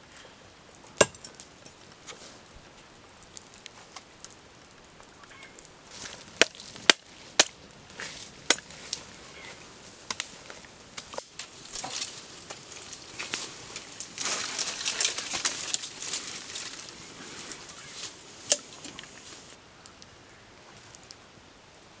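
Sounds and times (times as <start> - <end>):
leaves and twigs rustling: 0.0 - 22.0.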